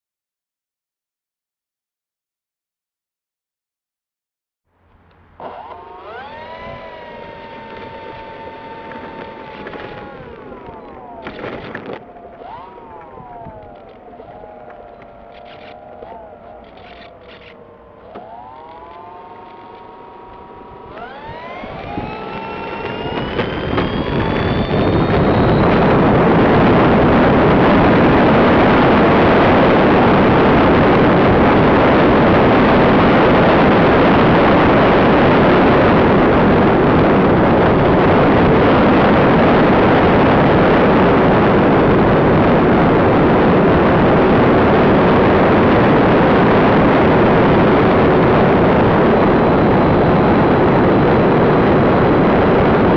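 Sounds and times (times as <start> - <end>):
model plane motors whining: 4.8 - 52.9
wind rushing on microphone: 5.4 - 52.9.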